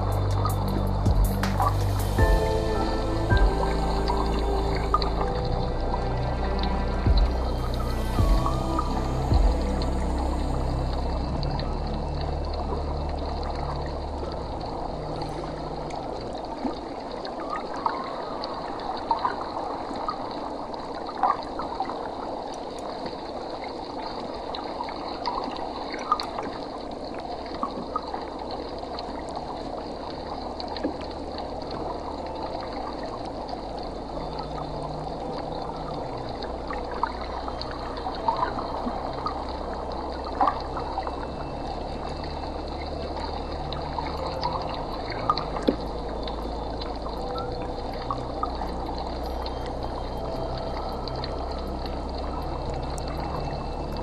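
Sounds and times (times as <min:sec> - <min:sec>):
aquarium water trickling and bubbling: 0:00.0 - 0:54.0.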